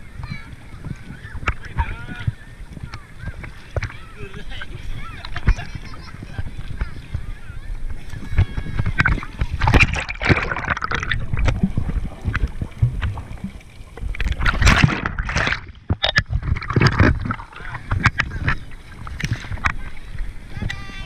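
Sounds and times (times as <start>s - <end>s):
muffled underwater gurgling: 0.0s - 21.0s
sea water splashing: 0.0s - 21.0s.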